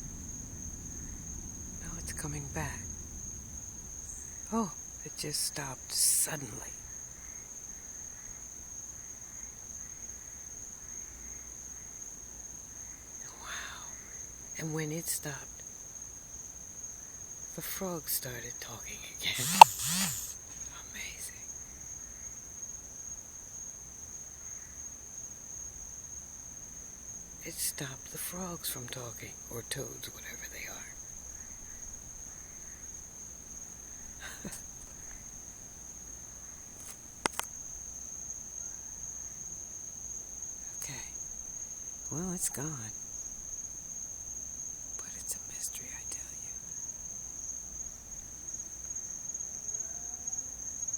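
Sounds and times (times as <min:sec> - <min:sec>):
faint frog calls: 0:00.0 - 0:23.2, 0:27.1 - 0:50.9
crickets trilling: 0:00.0 - 0:50.9.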